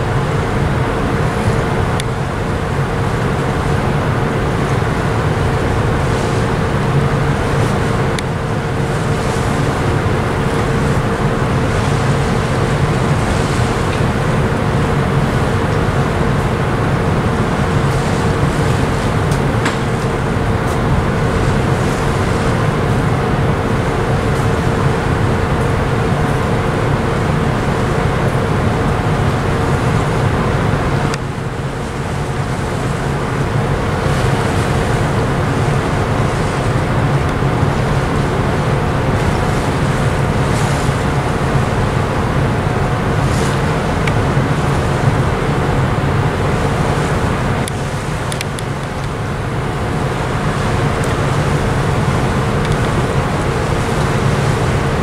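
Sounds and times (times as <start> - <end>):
ship engines droning: 0.0 - 55.0.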